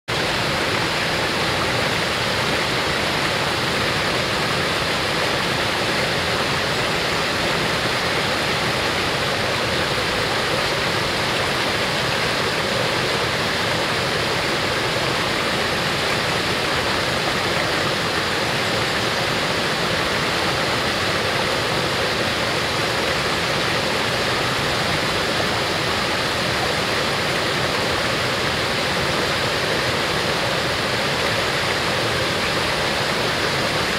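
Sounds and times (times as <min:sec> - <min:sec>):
small waterfall rushing: 0:00.0 - 0:33.9.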